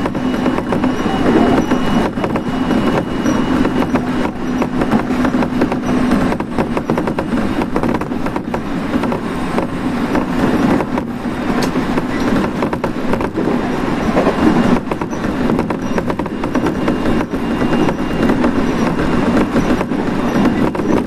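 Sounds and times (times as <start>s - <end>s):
rattles and clicks: 0.0s - 21.0s
train wheels rumbling on rail: 0.0s - 21.0s.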